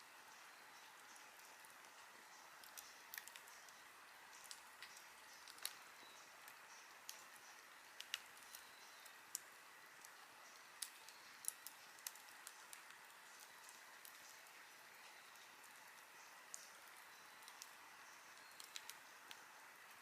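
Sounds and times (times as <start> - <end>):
faint steady hiss: 0.0 - 20.0
wood fire crackling: 0.0 - 20.0.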